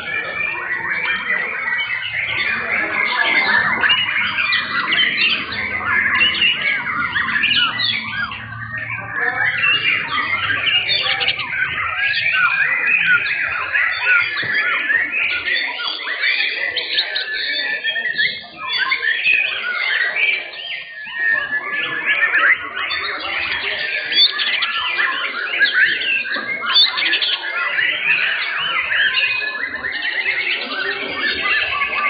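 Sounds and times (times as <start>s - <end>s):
many songbirds singing: 0.0s - 32.0s.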